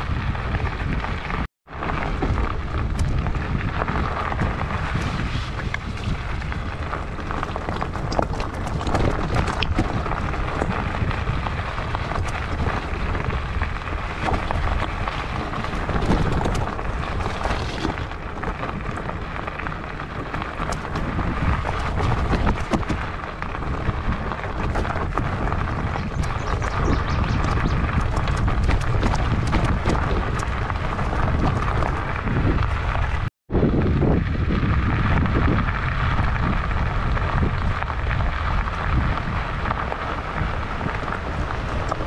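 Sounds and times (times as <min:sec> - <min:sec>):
bike tyres rumbling on gravel: 0:00.0 - 0:42.0
stones and bike parts rattling: 0:00.1 - 0:33.3, 0:34.6 - 0:42.0.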